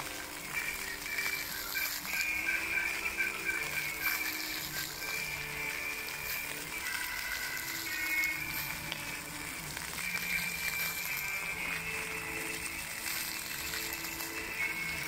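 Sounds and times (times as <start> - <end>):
fountain jets splashing: 0.0 - 15.0
music with long held notes: 0.0 - 15.0.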